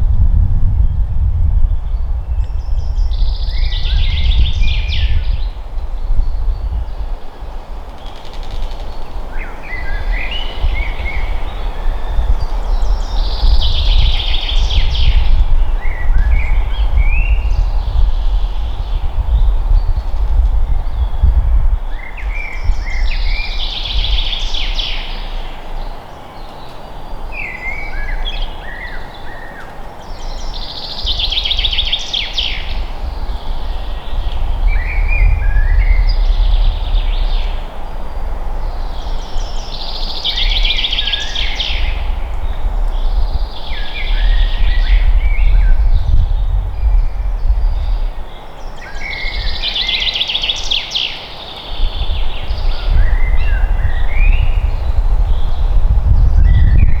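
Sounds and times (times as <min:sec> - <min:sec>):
low wind rumble: 0:00.0 - 0:57.0.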